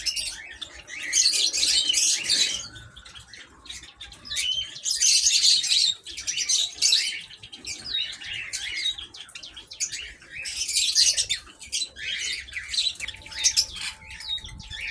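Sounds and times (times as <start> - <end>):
small birds chirping and chattering: 0.0 - 14.9.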